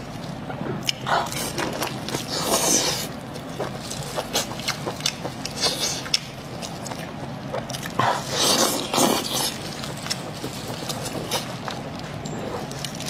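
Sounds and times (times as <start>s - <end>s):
wet chewing and biting: 0.0s - 13.0s.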